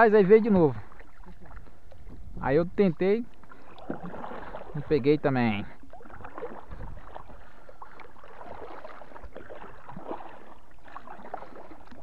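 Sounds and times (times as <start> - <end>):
paddle splashing and dripping: 0.0 - 2.4, 3.0 - 12.0
water washing against hull: 0.0 - 12.0.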